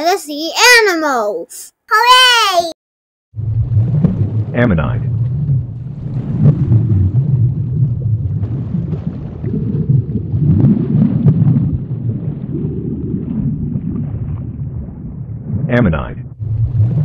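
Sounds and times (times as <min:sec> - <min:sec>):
low underwater rumbling wash: 0:03.4 - 0:17.0.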